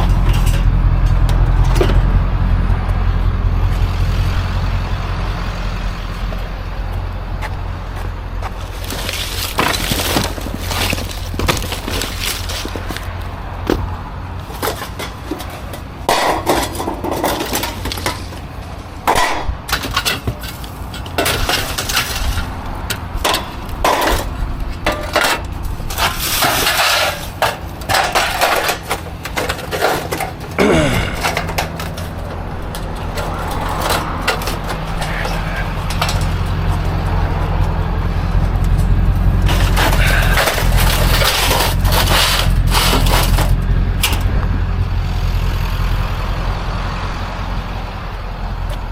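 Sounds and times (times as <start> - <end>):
scrap junk clattering and banging: 0.0 - 46.8
vehicle engine idling: 0.0 - 48.9.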